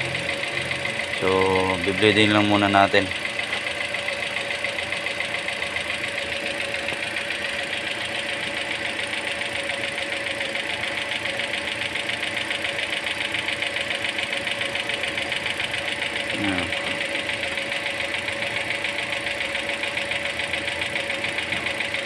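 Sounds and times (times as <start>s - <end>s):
car engine idling with ticking: 0.0s - 22.0s.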